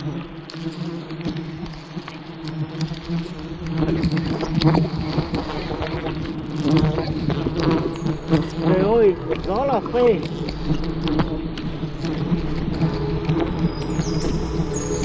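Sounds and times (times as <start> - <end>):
bees buzzing: 1.9 - 15.0.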